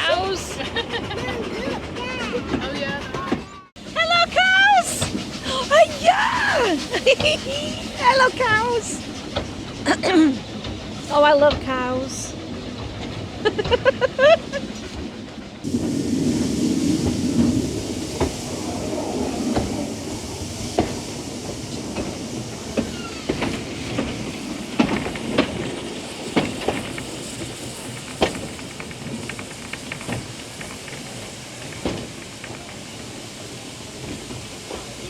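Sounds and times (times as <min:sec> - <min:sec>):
train rumble and hiss: 0:00.0 - 0:35.0
train wheel squeal: 0:00.0 - 0:35.0
wheels clicking and clanking: 0:00.0 - 0:35.0.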